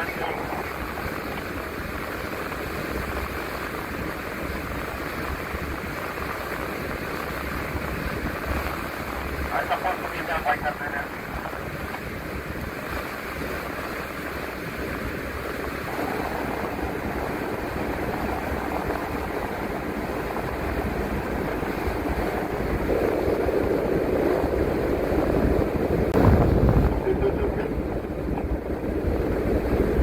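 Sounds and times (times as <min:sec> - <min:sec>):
bus engine tyres and wind rumble: 0:00.0 - 0:30.0.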